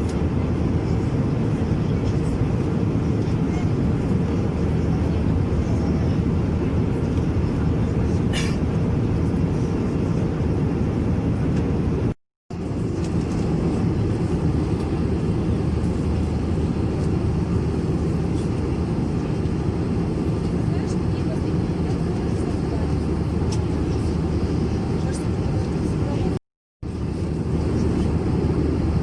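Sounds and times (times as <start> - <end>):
aircraft cabin engine drone: 0.0 - 29.0.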